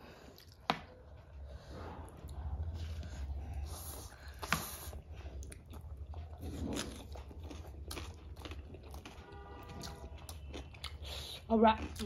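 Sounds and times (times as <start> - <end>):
chewing and biting: 2.1 - 12.0.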